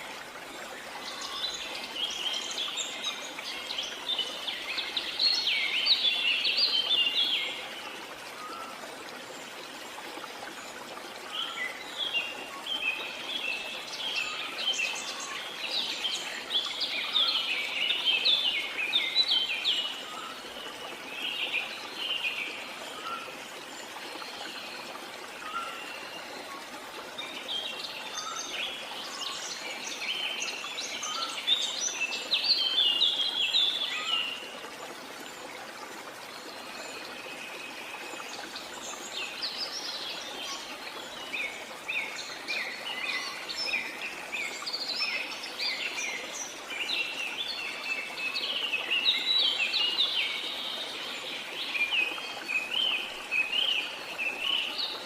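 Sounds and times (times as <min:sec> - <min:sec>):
running water hiss: 0:00.0 - 0:55.0.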